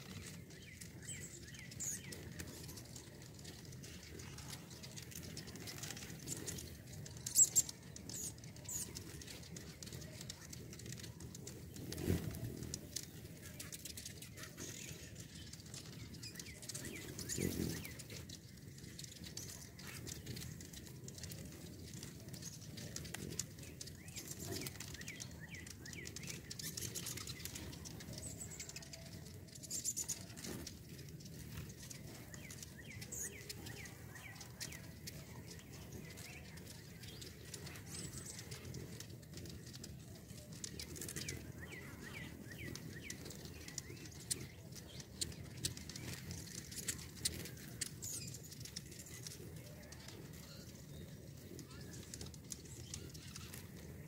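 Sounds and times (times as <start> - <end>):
whirr of wings: 0.0 - 50.6
hummingbird chips and squeaks: 0.0 - 54.0.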